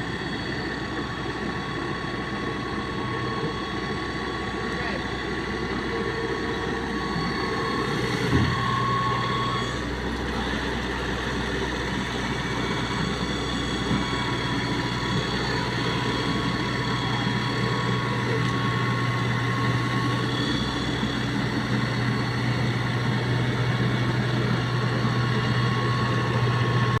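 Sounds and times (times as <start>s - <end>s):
harvester engine droning: 0.0s - 27.0s.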